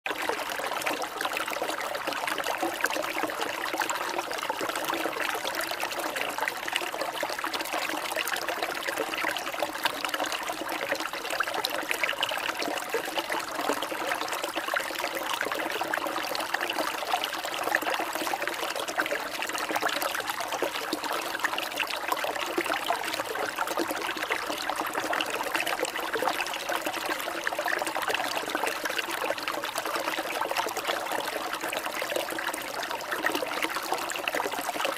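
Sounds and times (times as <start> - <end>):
trickling water: 0.1 - 34.9.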